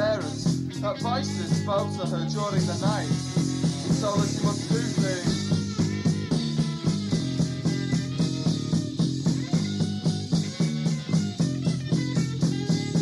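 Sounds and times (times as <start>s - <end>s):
rock music with guitar and bass: 0.0s - 13.0s.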